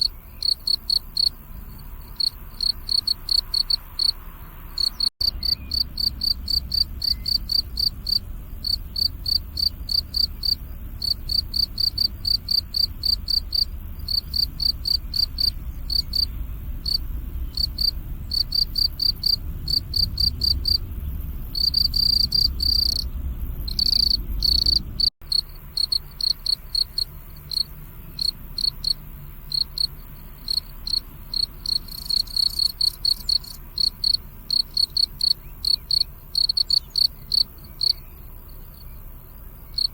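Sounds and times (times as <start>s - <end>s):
crickets chirping: 0.0s - 39.9s
faint low rumble: 0.0s - 39.9s.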